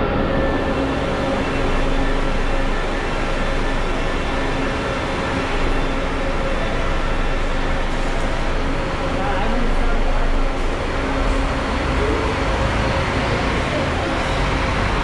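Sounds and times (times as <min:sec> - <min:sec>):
bus engine idling: 0:00.0 - 0:15.0
bus terminal noise: 0:00.0 - 0:15.0.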